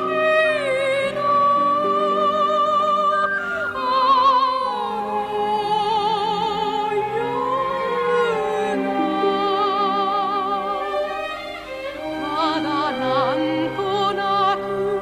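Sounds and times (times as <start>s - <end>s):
woman singing with vibrato: 0.0s - 11.2s, 12.0s - 15.0s
soft instrumental accompaniment: 0.0s - 15.0s.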